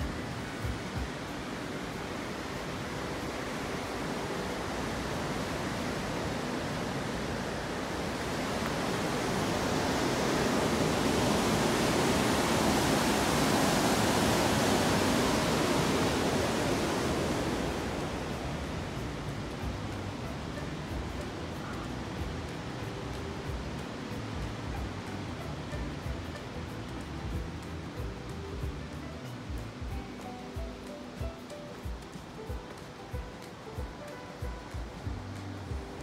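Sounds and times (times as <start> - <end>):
water rushing at a dam: 0.0 - 36.0.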